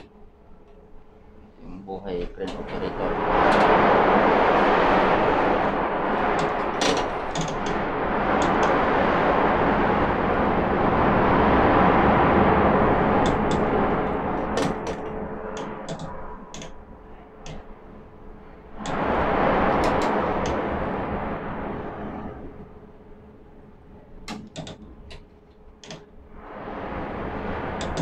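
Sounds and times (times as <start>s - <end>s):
steel plant roar: 2.5s - 24.3s, 26.2s - 28.0s.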